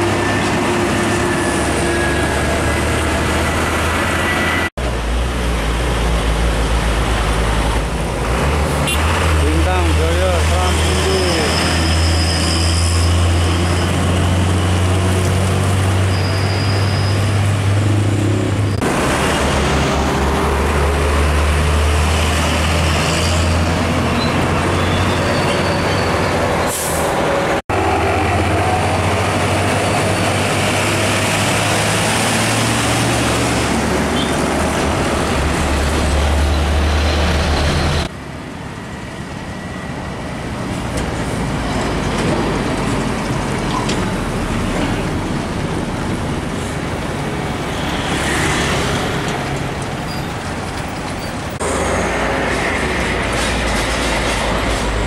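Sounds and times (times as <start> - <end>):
diesel trucks driving past: 0.0 - 55.0.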